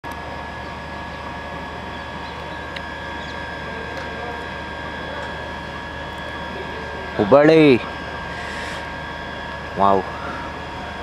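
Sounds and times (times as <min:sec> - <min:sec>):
train engine low drone: 0:00.0 - 0:11.0
high whining tones: 0:00.1 - 0:11.0.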